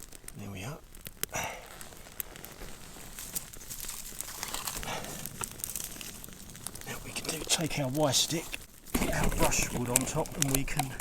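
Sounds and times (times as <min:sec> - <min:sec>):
fire crackling and popping: 0:00.0 - 0:11.0
fire hiss: 0:00.0 - 0:11.0.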